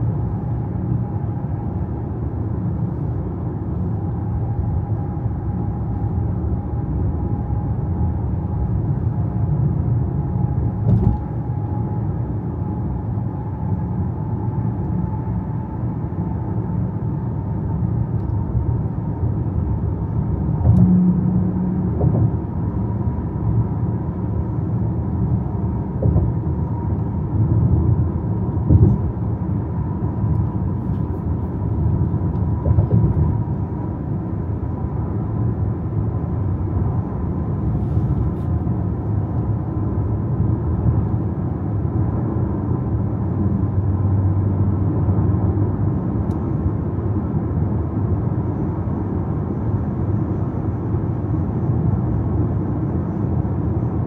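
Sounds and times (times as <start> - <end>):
car driving rumble: 0.0 - 54.0
faint steady whine: 0.0 - 54.0.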